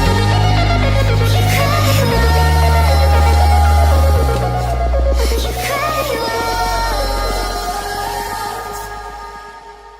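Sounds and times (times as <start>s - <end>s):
deep bass: 0.0s - 9.9s.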